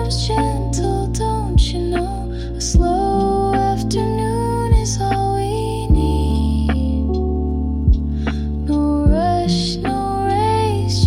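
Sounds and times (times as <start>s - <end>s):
chill ambient music: 0.0s - 11.0s.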